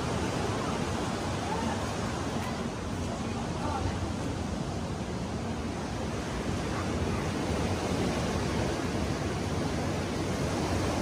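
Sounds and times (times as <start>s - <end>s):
ocean surf rushing: 0.0s - 11.0s
wind: 0.0s - 11.0s.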